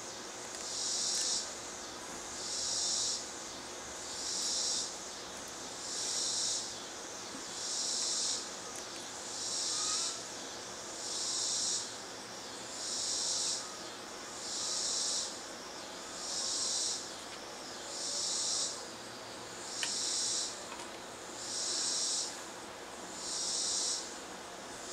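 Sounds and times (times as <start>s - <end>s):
insect buzzing call: 0.0s - 20.7s, 21.3s - 24.3s
background hiss: 0.0s - 24.9s.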